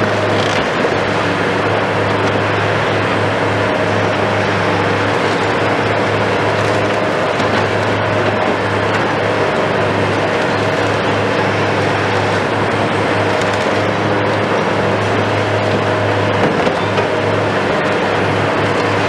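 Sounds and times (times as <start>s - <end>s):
excavator running: 0.0s - 19.0s.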